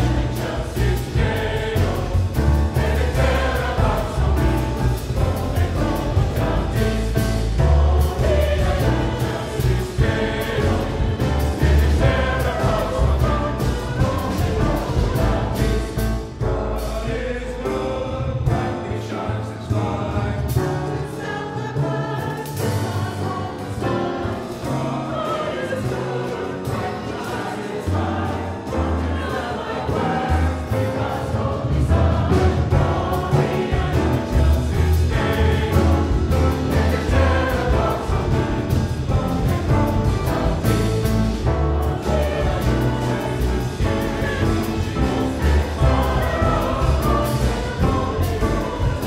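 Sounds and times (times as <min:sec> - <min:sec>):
double bass: 0:00.0 - 0:49.0
drums: 0:00.0 - 0:49.0
grand piano: 0:00.0 - 0:49.0
mixed choir singing: 0:00.0 - 0:49.0.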